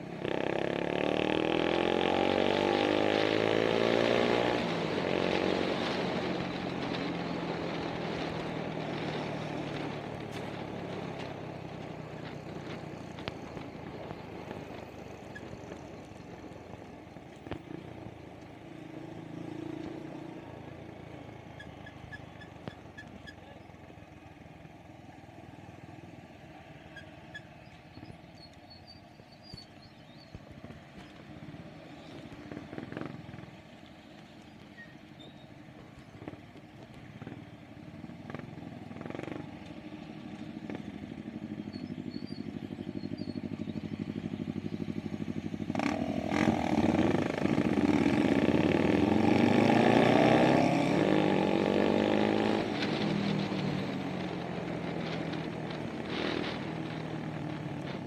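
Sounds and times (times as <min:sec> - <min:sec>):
motorcycle engine running: 0:00.0 - 0:58.0
other motorcycle engines: 0:00.0 - 0:58.0
road and wind noise: 0:00.0 - 0:58.0.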